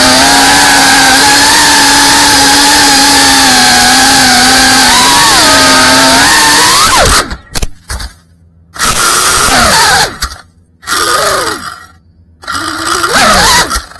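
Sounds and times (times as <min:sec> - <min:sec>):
drone motors whining: 0:00.0 - 0:13.9.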